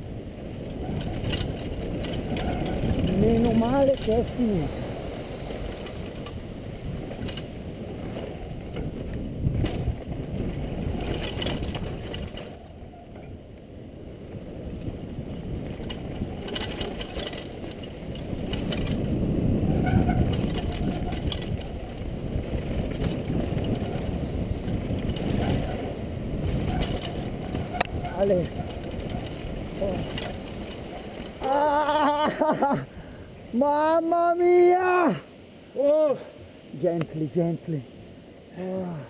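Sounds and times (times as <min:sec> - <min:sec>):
mountain bike rattling over rocks: 0:00.0 - 0:13.4, 0:14.0 - 0:32.6
wind rumble on microphone: 0:00.0 - 0:35.1.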